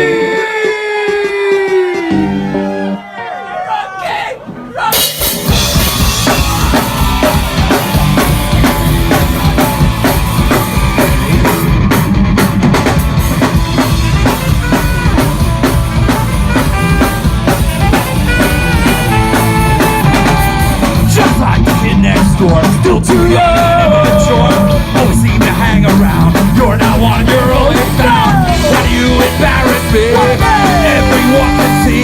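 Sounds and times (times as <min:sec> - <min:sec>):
rock band playing: 0:00.0 - 0:03.4, 0:04.4 - 0:32.0
drum kit beat: 0:04.4 - 0:32.0.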